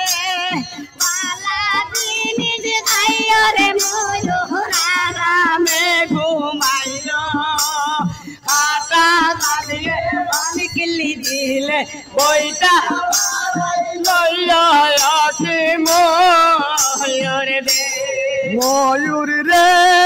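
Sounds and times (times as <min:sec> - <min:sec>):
person singing folk song: 0:00.0 - 0:20.0.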